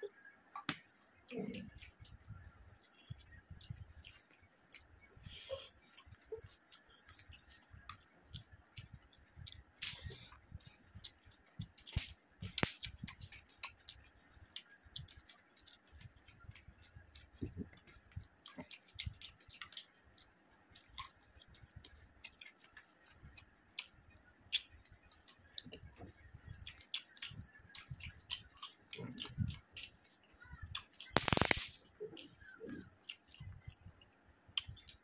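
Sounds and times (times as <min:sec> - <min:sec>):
chewing: 0:00.7 - 0:35.0
fingers mixing rice on a plate: 0:05.7 - 0:34.0
wet mouth clicks: 0:05.9 - 0:33.9, 0:34.6 - 0:35.0.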